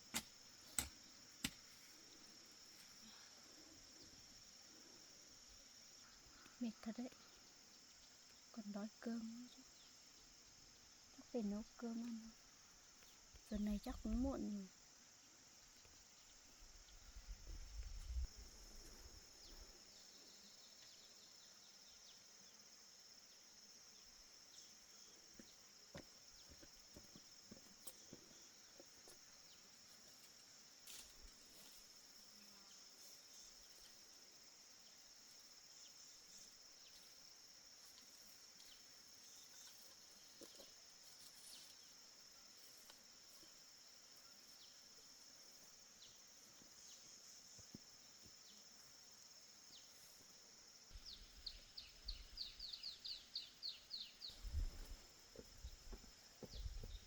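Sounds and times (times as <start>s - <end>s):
crickets chorus: 0.0s - 57.0s.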